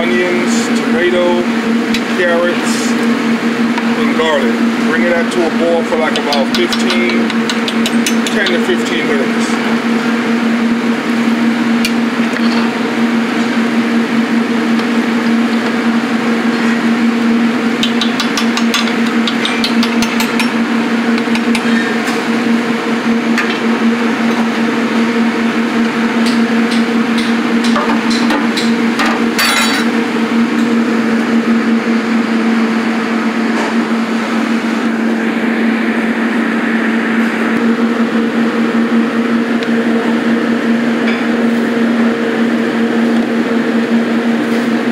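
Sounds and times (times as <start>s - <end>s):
steady loud hum: 0.0s - 44.9s.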